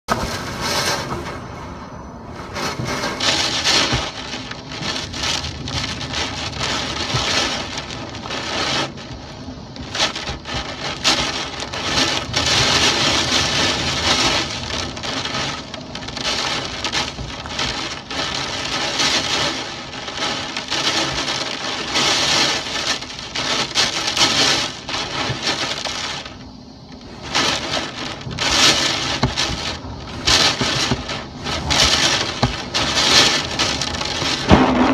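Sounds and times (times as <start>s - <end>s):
heavy rain: 0.0s - 34.9s
gusting wind: 0.1s - 34.9s.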